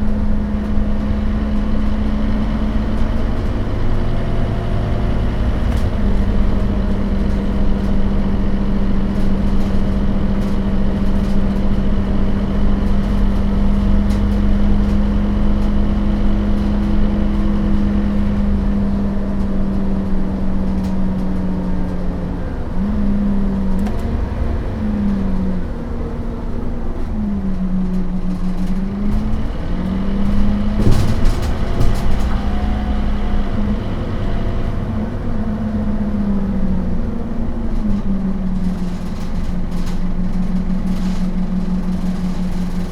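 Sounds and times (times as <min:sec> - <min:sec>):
bus engine rumbling: 0:00.0 - 0:42.9.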